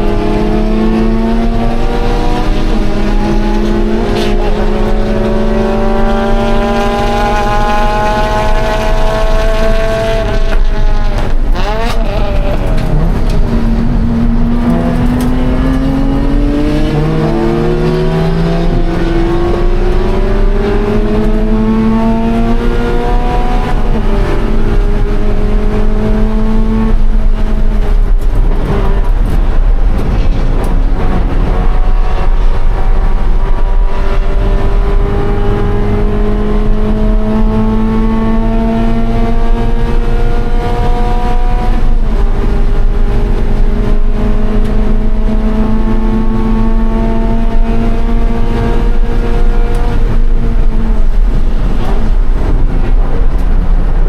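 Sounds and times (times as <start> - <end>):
car engine revving under acceleration: 0.0 - 54.0.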